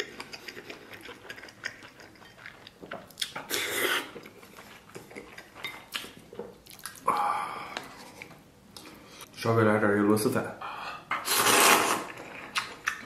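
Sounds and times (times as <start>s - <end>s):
man chewing food: 0.0s - 9.4s, 10.7s - 13.0s.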